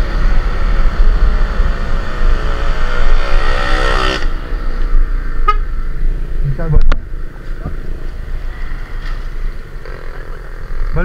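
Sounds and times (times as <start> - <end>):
engine whine: 0.0 - 11.0
road noise: 0.0 - 11.0.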